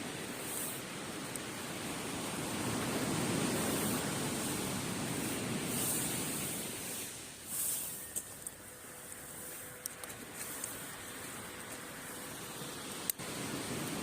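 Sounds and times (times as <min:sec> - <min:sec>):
faint fire crackles: 0:00.0 - 0:14.0
waves washing onto a beach: 0:00.0 - 0:14.0.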